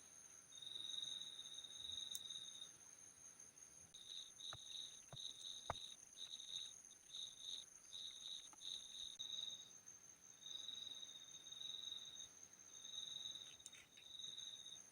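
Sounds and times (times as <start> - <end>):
cricket chirping: 0.0 - 14.9.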